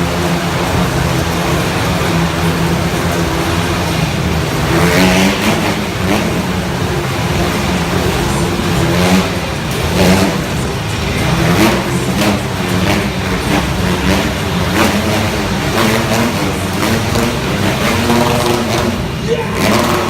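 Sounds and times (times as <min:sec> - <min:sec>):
motorbike engines revving: 0:00.0 - 0:20.0.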